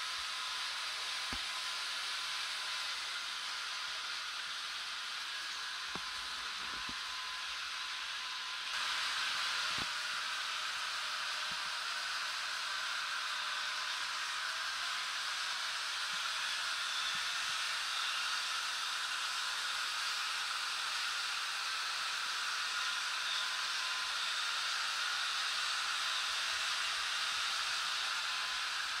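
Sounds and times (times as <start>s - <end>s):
model train motors whirring: 0.0s - 29.0s.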